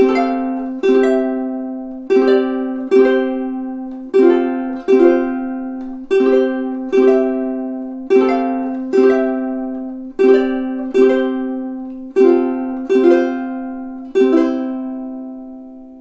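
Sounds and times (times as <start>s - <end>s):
ukulele chords strummed: 0.0s - 16.0s.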